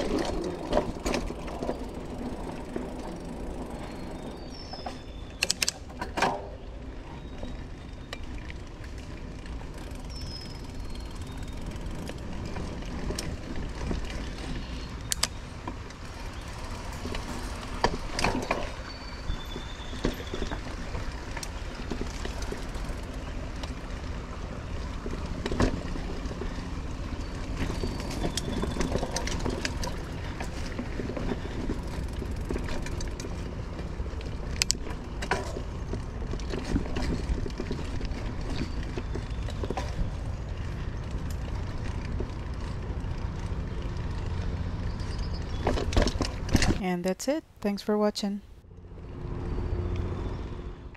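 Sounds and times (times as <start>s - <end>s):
bike rattling over bumps: 0.0s - 46.8s
tyres rumbling on dirt: 0.0s - 47.4s.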